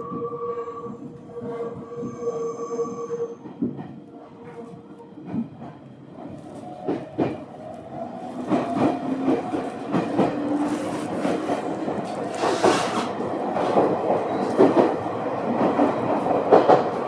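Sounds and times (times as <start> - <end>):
train rumble from inside: 0.0 - 17.0.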